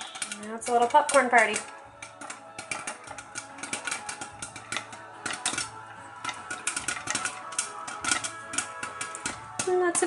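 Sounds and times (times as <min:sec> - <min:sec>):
popcorn popping in a pan: 0:00.0 - 0:10.0.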